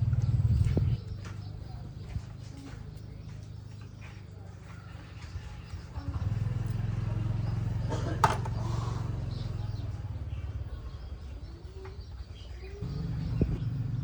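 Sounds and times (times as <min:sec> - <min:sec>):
low motor running: 0:00.0 - 0:14.0.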